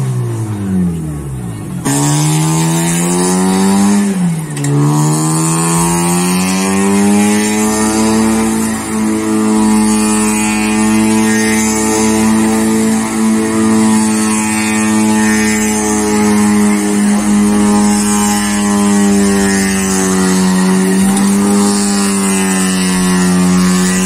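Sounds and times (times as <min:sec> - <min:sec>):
car engine at high revs: 0:00.0 - 0:24.0.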